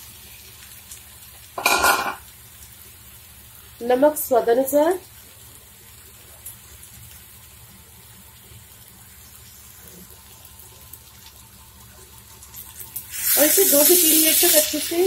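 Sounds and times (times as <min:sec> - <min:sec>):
prawns sizzling in a pan: 0:00.0 - 0:15.0.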